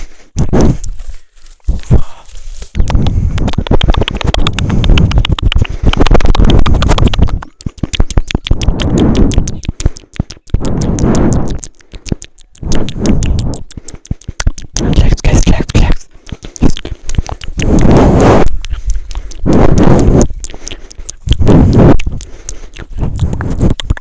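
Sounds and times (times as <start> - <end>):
tapping and scratching on microphone: 0.0 - 24.0.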